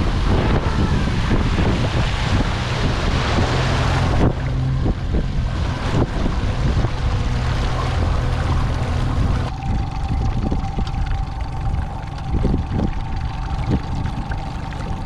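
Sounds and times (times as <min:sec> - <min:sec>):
boat motor running: 0:00.0 - 0:15.0
wind rushing over microphone: 0:00.0 - 0:15.0.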